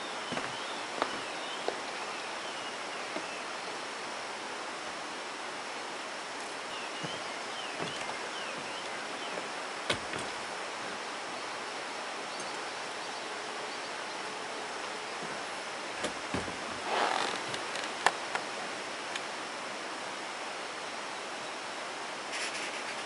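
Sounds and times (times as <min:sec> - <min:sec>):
outdoor ambience: 0:00.0 - 0:23.0.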